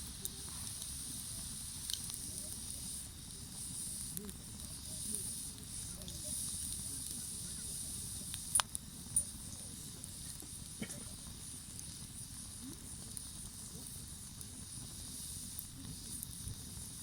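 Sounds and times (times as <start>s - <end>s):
campfire burning and crackling: 0.0s - 17.0s.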